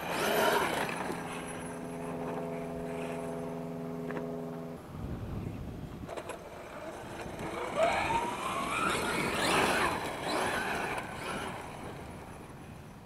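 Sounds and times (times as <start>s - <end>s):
rc car motor whining: 0.0s - 4.2s, 6.0s - 12.8s.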